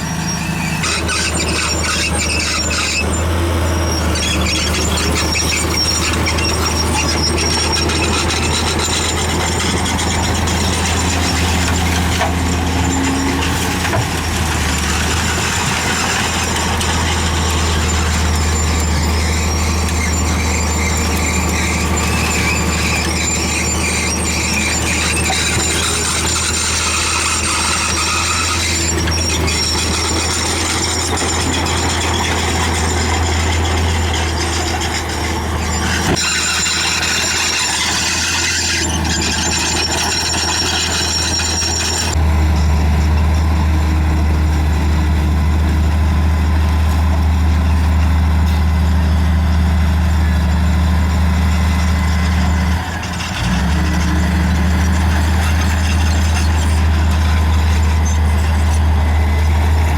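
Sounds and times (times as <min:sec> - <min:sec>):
bulldozer diesel engine running: 0:00.0 - 0:59.9
high squeal from steel tracks: 0:00.0 - 0:59.9.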